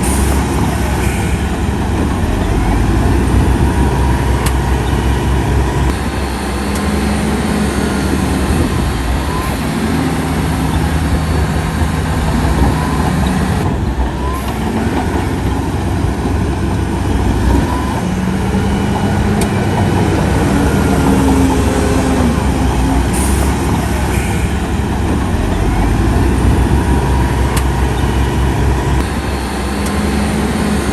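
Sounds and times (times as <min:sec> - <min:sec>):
heavy diesel engines rumbling: 0:00.0 - 0:30.9.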